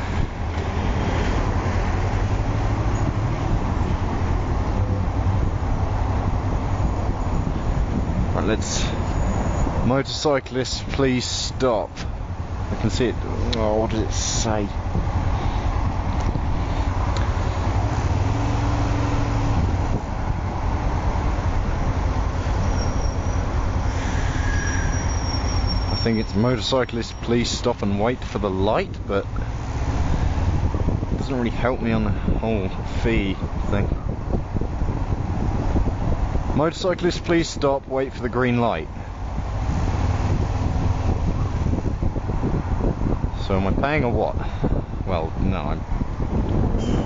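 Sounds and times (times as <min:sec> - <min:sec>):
road and traffic noise: 0:00.0 - 0:47.0.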